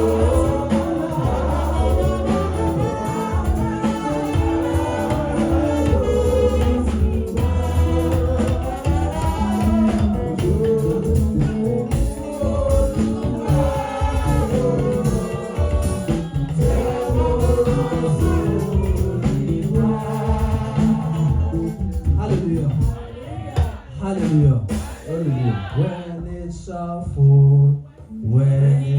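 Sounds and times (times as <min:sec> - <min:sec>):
instrumental accompaniment with beat: 0:00.0 - 0:26.4
gospel choir singing: 0:00.0 - 0:28.9.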